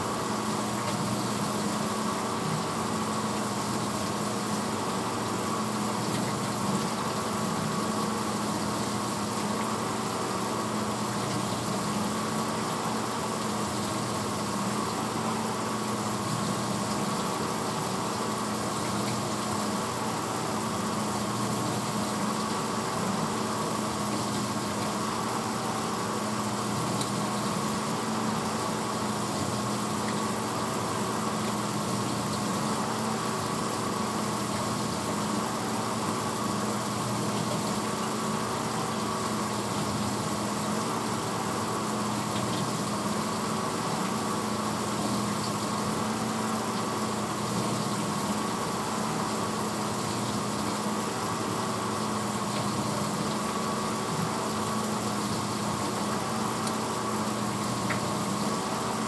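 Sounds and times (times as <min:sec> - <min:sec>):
dishwasher motor and pump hum: 0:00.0 - 0:59.0.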